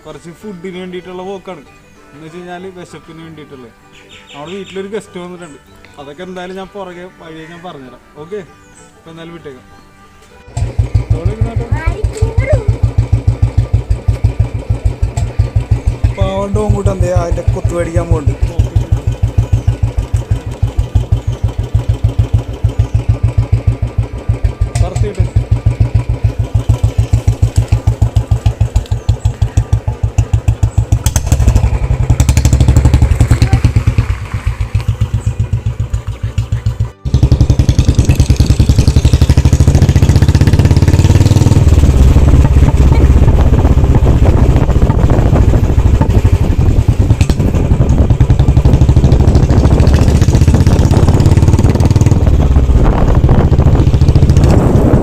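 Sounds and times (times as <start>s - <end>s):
motorcycle engine under way: 10.5s - 55.0s.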